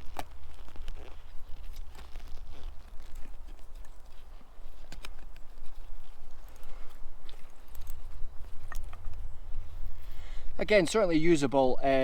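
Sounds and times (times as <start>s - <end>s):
hands digging through dry soil: 0.0s - 10.2s.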